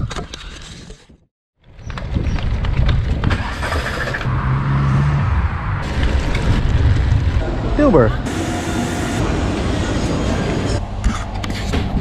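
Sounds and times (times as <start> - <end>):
motor vehicle rumble: 1.6 - 12.0.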